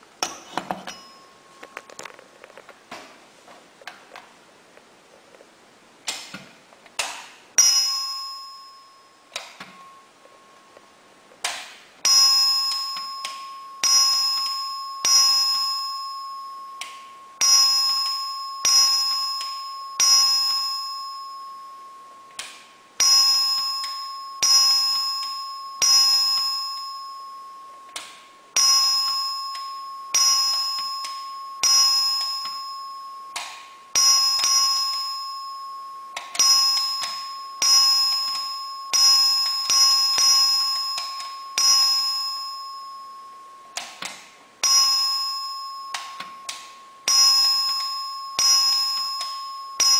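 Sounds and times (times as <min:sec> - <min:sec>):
electric bell single dings: 0:07.6 - 0:10.6, 0:12.0 - 0:43.9, 0:44.6 - 0:49.9.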